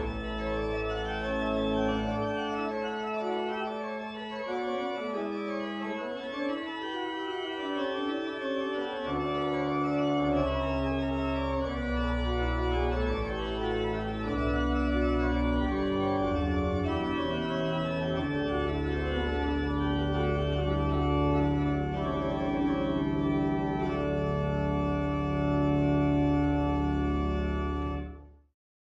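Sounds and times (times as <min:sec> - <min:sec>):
church organ chords: 0:00.0 - 0:28.4
deep organ pedal bass notes: 0:00.0 - 0:28.4.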